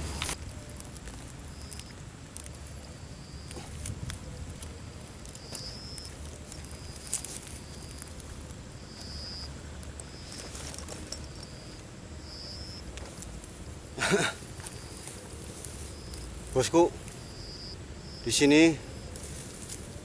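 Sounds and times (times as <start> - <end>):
steps rustling in dry grass: 0.0 - 17.3, 18.9 - 20.0
insect chirping: 0.0 - 20.0.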